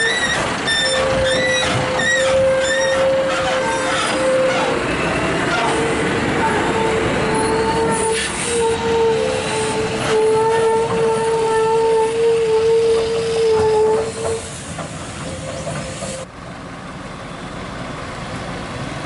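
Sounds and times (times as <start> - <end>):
truck engine and tyre rumble: 0.0 - 11.0, 14.4 - 19.0.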